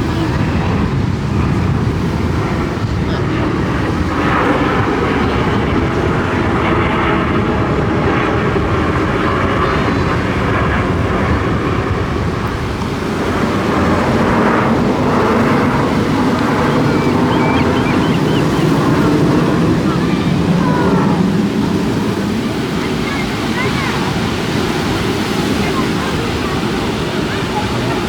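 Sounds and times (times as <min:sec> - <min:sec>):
aircraft engine overhead: 0:00.0 - 0:28.0.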